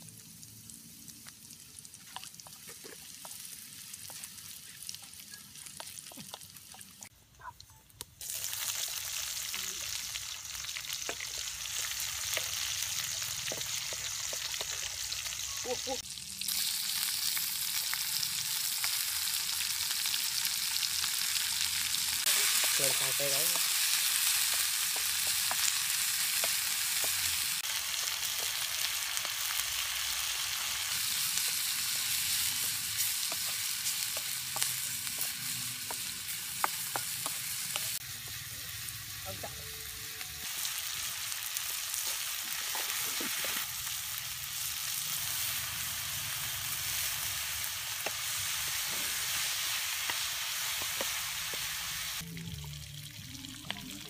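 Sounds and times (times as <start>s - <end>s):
food sizzling in a wok: 0.0s - 7.1s, 8.2s - 54.0s.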